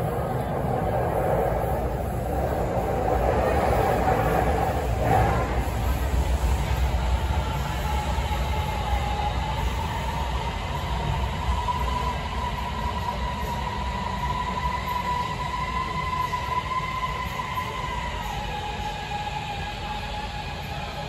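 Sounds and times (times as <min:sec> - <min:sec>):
train rolling rumble: 0:00.0 - 0:21.0
train whine: 0:00.0 - 0:21.0.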